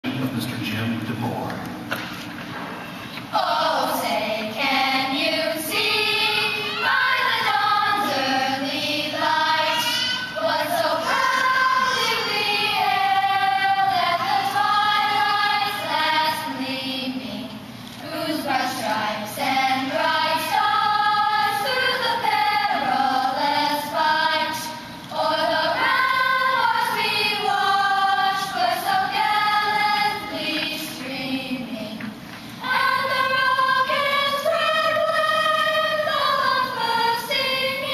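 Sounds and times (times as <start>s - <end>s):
children's choir singing: 3.3s - 37.9s.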